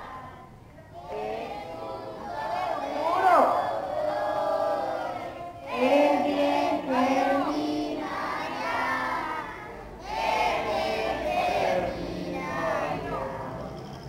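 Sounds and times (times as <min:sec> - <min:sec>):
children singing in chorus: 0:00.0 - 0:13.8.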